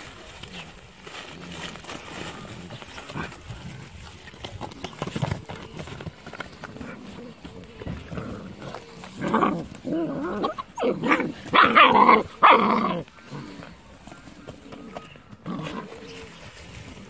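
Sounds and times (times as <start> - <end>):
puppies growling and yapping: 0.3 - 17.0.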